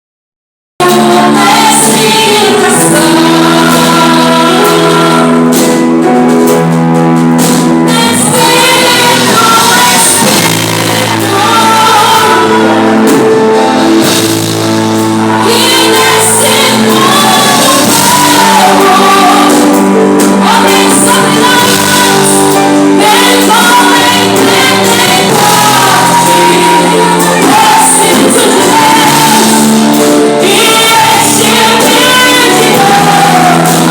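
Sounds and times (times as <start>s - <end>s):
group of singers: 0.8s - 6.3s, 7.4s - 33.9s
gospel band playing: 0.8s - 33.9s.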